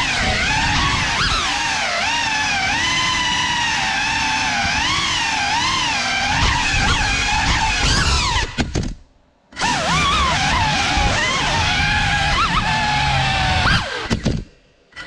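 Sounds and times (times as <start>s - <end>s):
drone motors whining: 0.0s - 8.8s, 9.5s - 15.0s.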